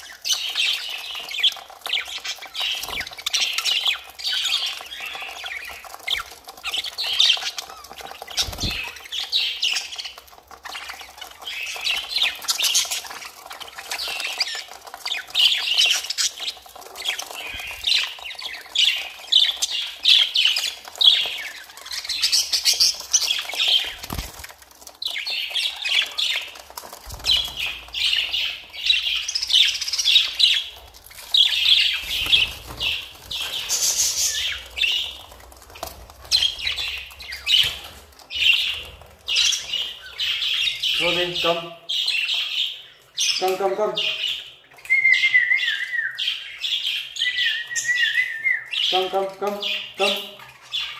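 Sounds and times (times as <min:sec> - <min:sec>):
budgerigars chattering and chirping: 0:00.0 - 0:50.9.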